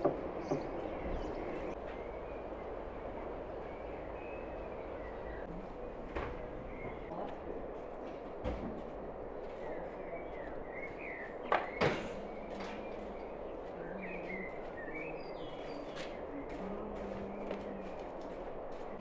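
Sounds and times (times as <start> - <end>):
small birds chirping: 0.0 - 7.8, 8.8 - 19.0.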